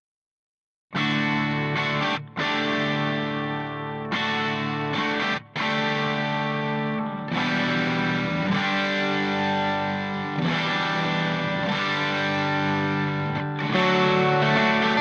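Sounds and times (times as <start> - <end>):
distorted electric guitar chords: 1.0 - 15.0.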